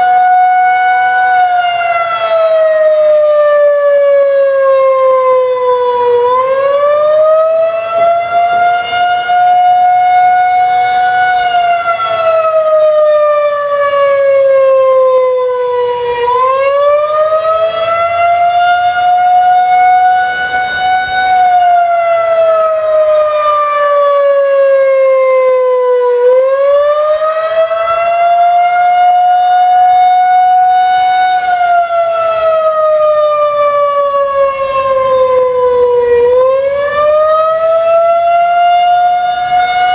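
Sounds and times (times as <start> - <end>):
mechanical siren wailing: 0.0 - 39.9.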